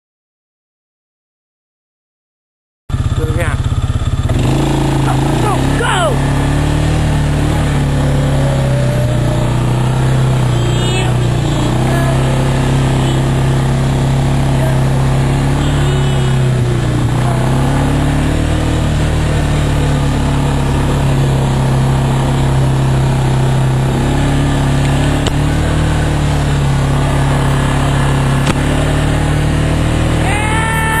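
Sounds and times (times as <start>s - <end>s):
off-road vehicle engine running: 2.9s - 31.0s.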